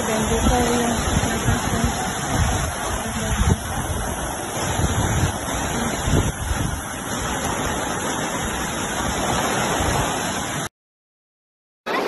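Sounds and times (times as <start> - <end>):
flood water rushing: 0.0 - 10.7
heavy rain: 0.0 - 10.7
wind gusting on microphone: 0.0 - 10.7.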